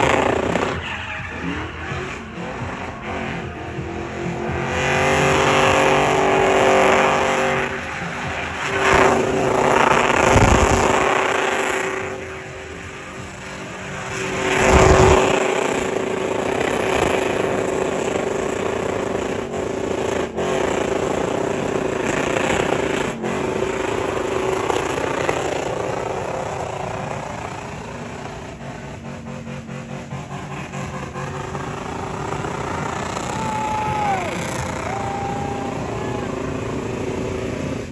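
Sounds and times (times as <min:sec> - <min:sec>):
vehicle engines running: 0:00.0 - 0:37.9.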